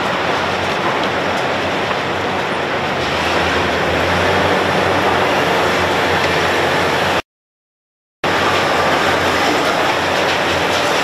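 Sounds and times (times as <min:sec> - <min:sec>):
excavators crushing: 0:00.0 - 0:07.2, 0:08.3 - 0:11.0.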